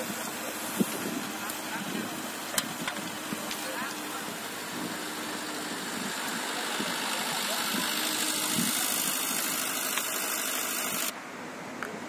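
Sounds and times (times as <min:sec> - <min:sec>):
excavator diesel engine running: 0:00.0 - 0:11.2.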